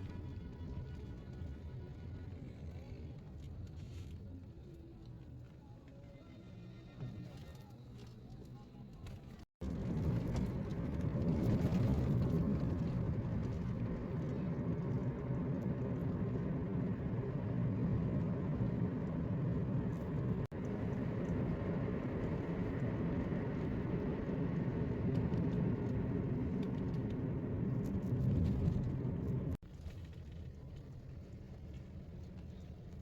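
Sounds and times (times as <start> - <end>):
car tyre and engine rumble: 0.0 - 33.0.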